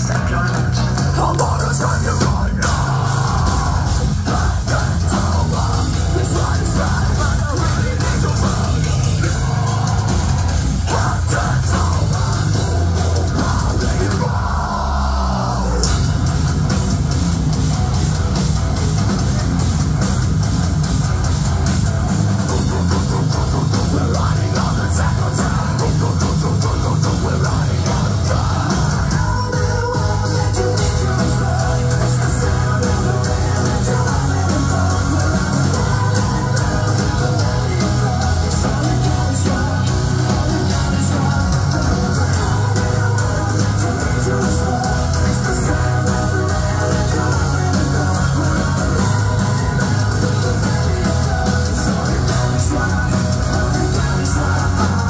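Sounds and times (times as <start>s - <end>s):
metalcore band playing live: 0.0s - 55.0s.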